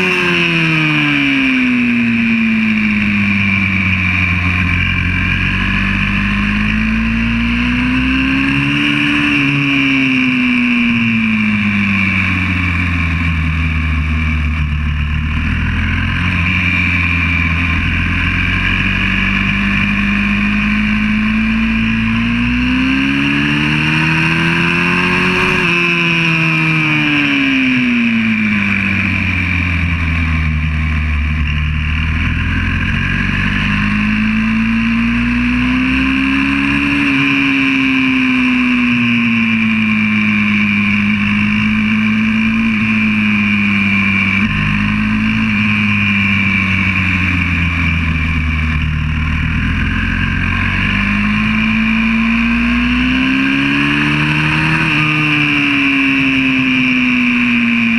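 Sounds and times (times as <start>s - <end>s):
motorbike engine running: 0.0s - 57.9s.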